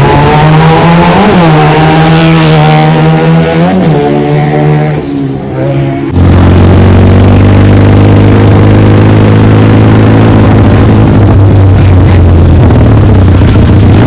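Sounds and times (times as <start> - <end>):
motorcycle engine with loud exhaust: 0.0 - 14.0.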